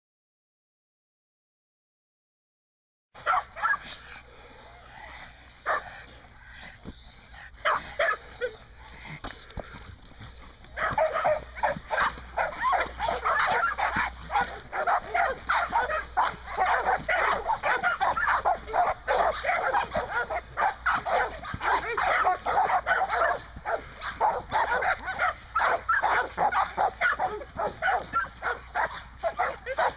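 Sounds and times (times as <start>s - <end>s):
dog barking and yipping: 3.2s - 4.2s, 5.2s - 6.7s, 7.3s - 29.9s.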